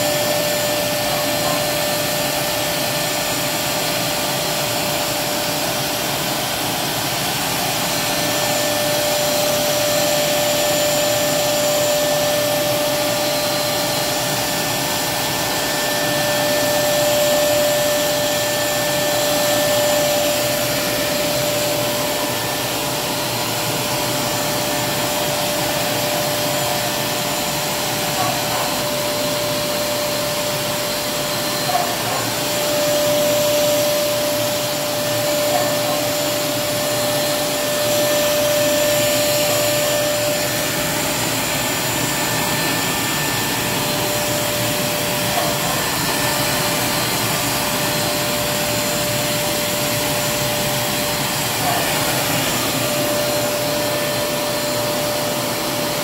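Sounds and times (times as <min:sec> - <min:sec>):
vacuum cleaner whining: 0:00.0 - 0:56.0.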